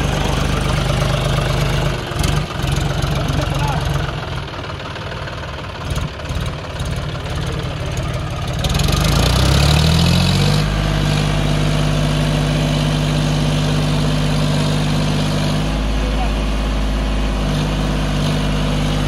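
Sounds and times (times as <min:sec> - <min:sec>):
tractor diesel engine revving: 0:00.0 - 0:19.0.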